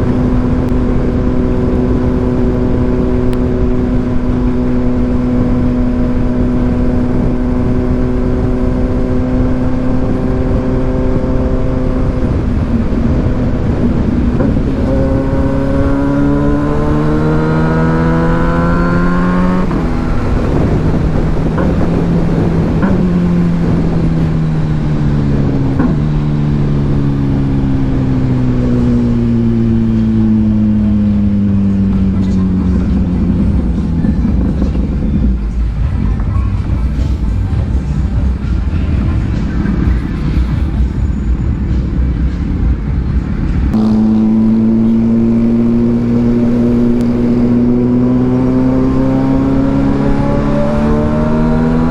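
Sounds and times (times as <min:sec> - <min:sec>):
motorcycle engine accelerating: 0:00.0 - 0:51.9
wind rush: 0:00.0 - 0:51.9.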